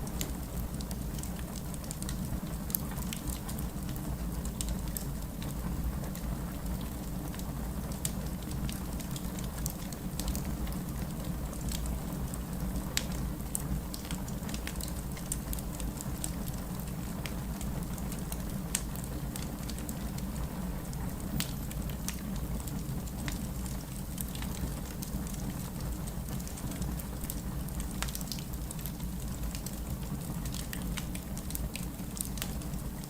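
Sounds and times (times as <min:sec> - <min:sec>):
fire crackling: 0:00.0 - 0:33.0
steady rain: 0:00.0 - 0:33.0.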